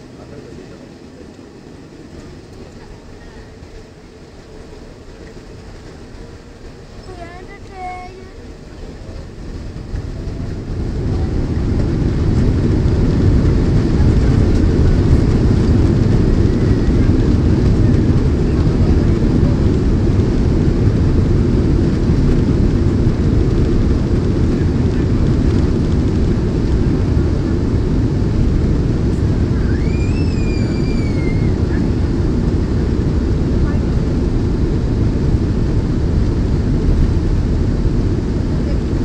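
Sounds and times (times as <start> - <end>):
jet engines spooling up: 0.0 - 39.0.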